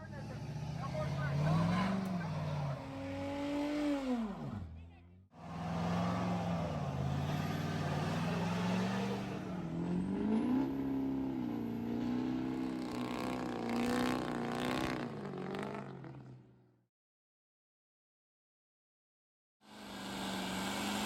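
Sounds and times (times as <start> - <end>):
truck engine revving: 0.0 - 4.8, 5.4 - 16.4, 19.8 - 21.0.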